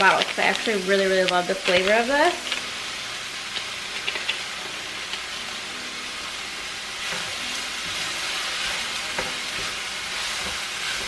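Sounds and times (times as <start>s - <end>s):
sausage sizzling in frying pan: 0.0s - 11.0s.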